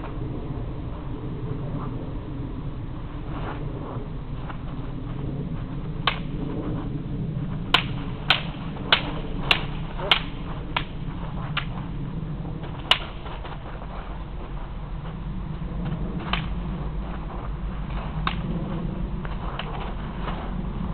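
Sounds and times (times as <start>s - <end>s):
low background rumble: 0.0s - 20.9s.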